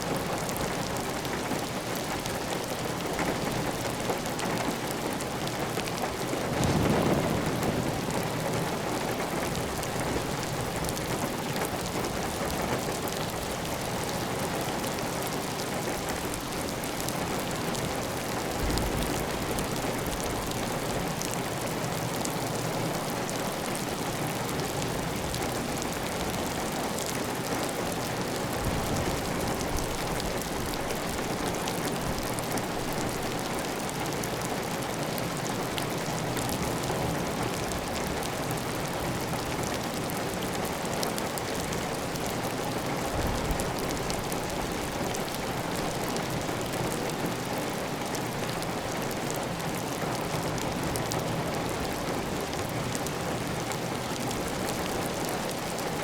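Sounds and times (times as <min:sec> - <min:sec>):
heavy rain on tiled roof: 0:00.0 - 0:56.0.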